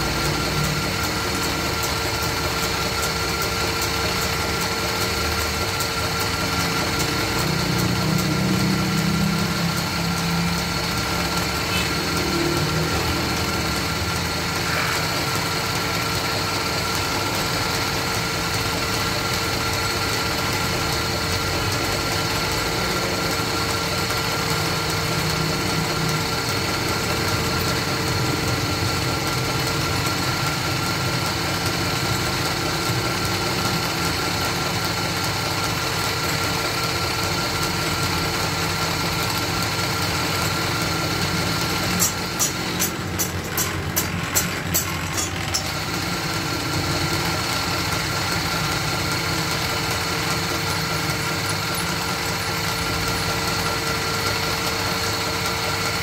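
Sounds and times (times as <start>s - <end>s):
wood lathe humming and whining: 0.0s - 56.0s.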